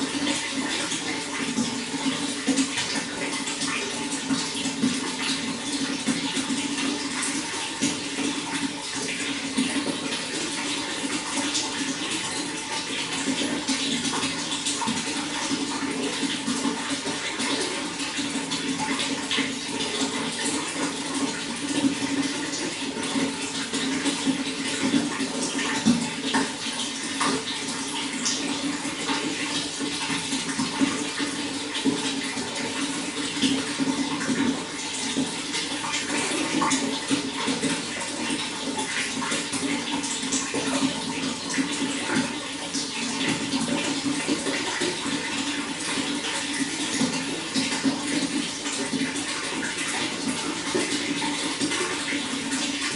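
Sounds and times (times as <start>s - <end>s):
running water splashing: 0.0s - 52.9s.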